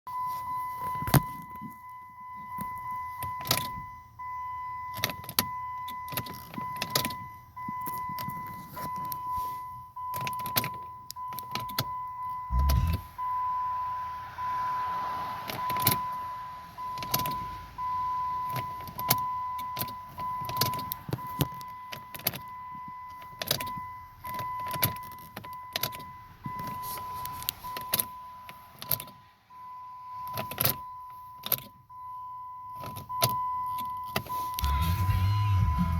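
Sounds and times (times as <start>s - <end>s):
dashboard warning tone: 0.1s - 35.9s.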